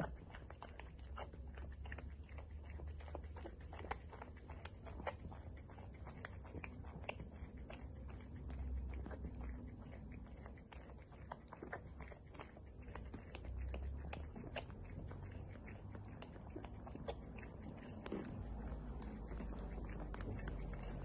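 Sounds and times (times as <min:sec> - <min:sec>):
dog licking and lapping: 0:00.0 - 0:21.0.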